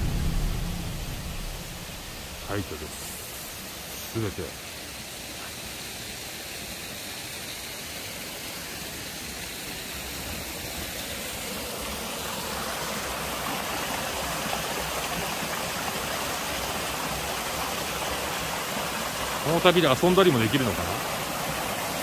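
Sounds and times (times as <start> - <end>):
waterfall splashing into pool: 0.0 - 22.0.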